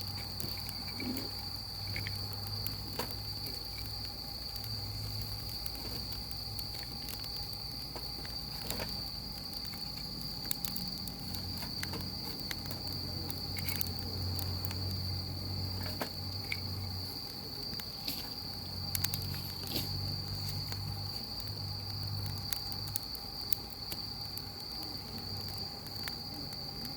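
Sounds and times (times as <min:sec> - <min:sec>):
firewood crackling and popping: 0:00.0 - 0:26.9.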